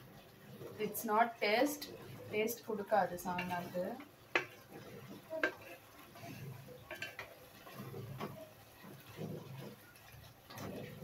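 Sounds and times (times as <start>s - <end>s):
spoon stirring thick curry: 0.2s - 11.0s.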